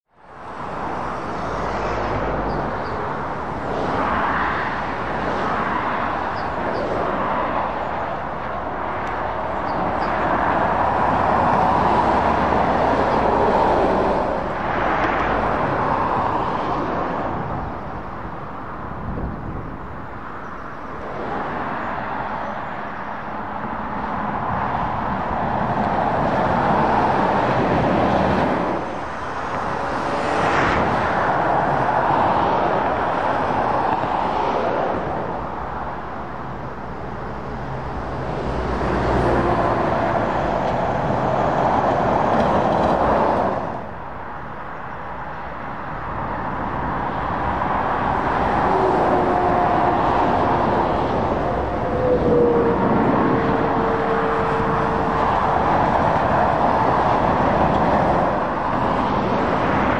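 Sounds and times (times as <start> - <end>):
vehicles passing on road: 0.1 - 59.9.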